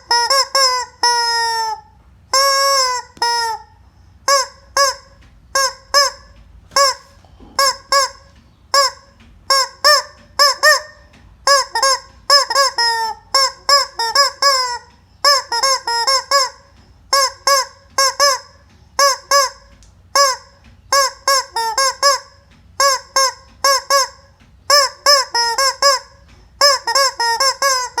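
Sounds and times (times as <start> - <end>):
squeaky rubber chicken toy squawks: 0.0 - 28.0.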